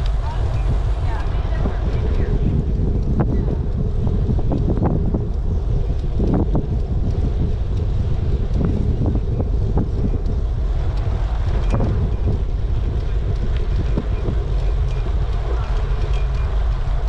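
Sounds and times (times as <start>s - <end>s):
light ticks: 0.0s - 17.0s
wind buffeting microphone: 0.0s - 17.0s.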